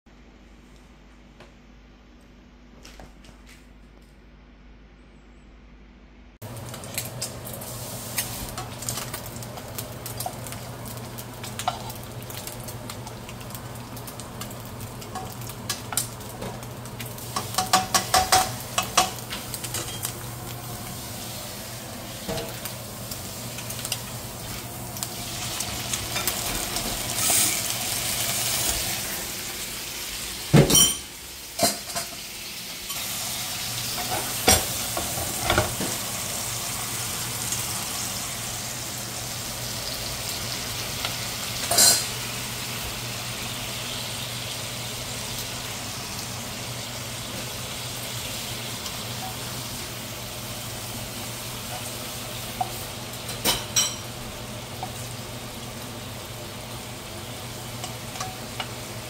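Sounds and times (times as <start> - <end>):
ribs sizzling in frying pan: 6.4 - 59.0.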